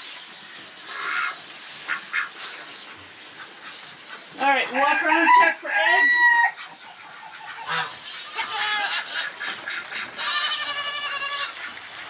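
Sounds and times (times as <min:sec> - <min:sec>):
poultry calling: 0:00.8 - 0:12.0.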